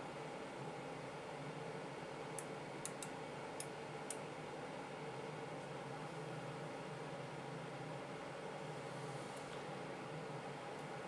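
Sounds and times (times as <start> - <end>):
low machine hum with hiss: 0.0 - 11.0.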